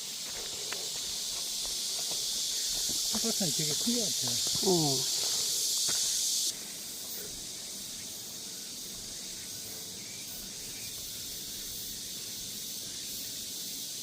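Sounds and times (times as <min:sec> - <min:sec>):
faint steady high hiss: 0:00.0 - 0:14.0
loud high insect buzz: 0:00.0 - 0:14.0.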